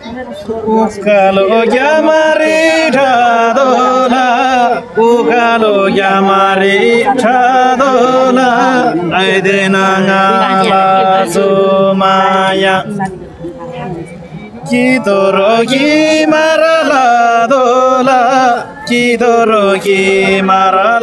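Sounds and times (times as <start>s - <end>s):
man singing long held notes: 0.7s - 13.1s, 14.5s - 21.0s.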